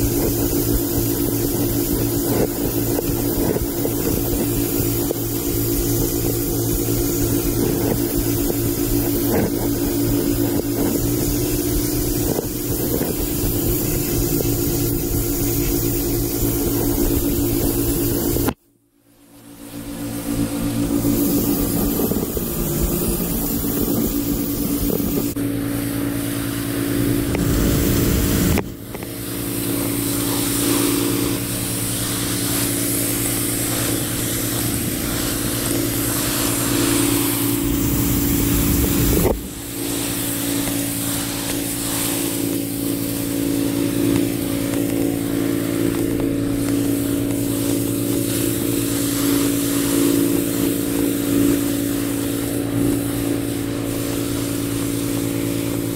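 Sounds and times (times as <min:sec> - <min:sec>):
water spray hissing on bricks: 0:00.0 - 0:18.6, 0:20.2 - 0:55.9
pressure washer engine drone: 0:00.0 - 0:55.9.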